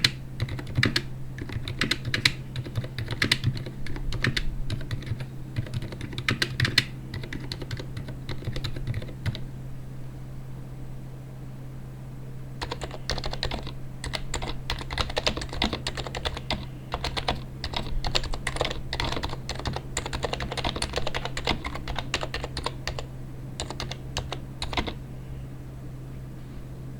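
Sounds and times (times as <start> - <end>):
keyboard typing: 0.0 - 9.4, 12.6 - 25.0.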